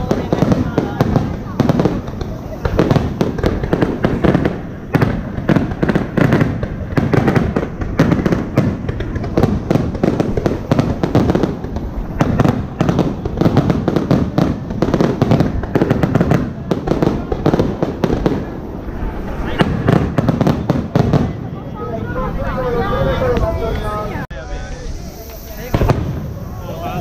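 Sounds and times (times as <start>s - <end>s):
firework shells bursting: 0.0s - 21.6s, 24.8s - 27.0s.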